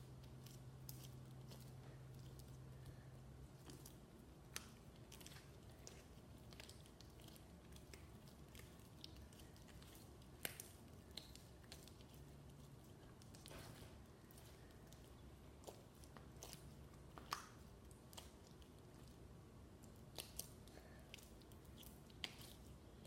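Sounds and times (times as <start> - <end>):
slime squishing by hand: 0.0 - 23.0.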